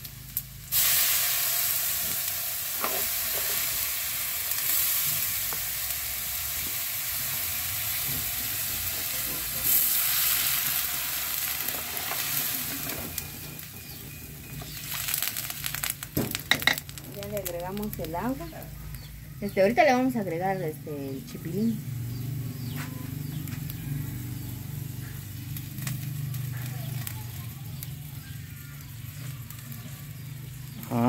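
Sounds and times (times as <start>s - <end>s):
water sizzling in hot oil: 0.0s - 21.0s, 23.2s - 31.0s.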